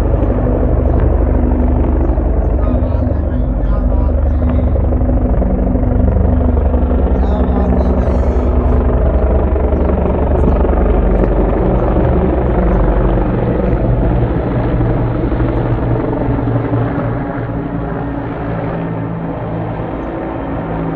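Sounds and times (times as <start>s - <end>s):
helicopters flying overhead: 0.0s - 20.9s.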